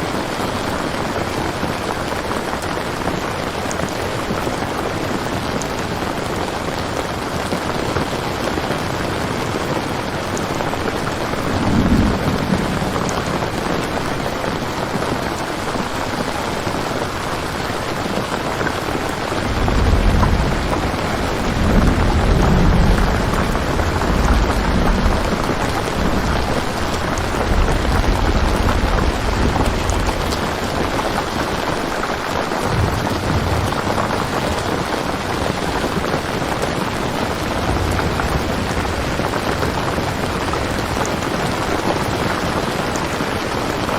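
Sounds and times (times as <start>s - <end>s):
steady rain: 0.0s - 43.9s
rolling thunder: 8.0s - 43.9s.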